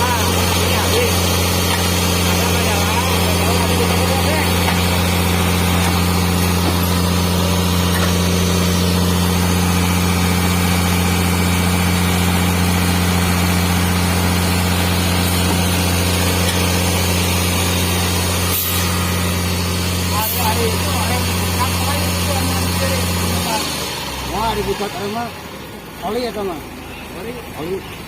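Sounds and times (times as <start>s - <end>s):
large vehicle engine idling: 0.0s - 28.0s.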